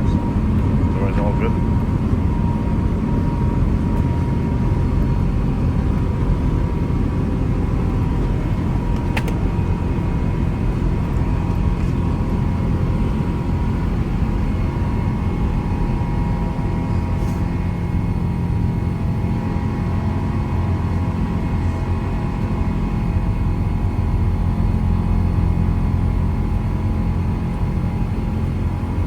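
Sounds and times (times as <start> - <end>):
jet engine rumble in cabin: 0.0 - 29.0.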